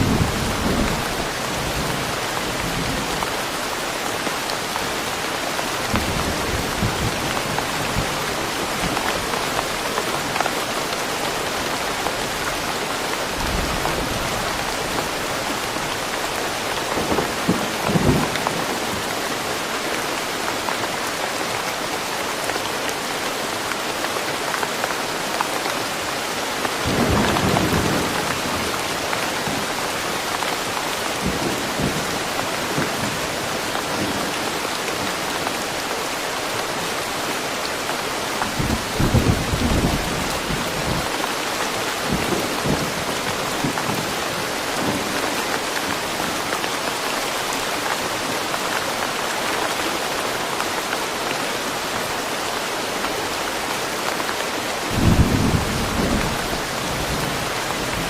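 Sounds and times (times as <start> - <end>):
steady rain in a forest: 0.0 - 58.0.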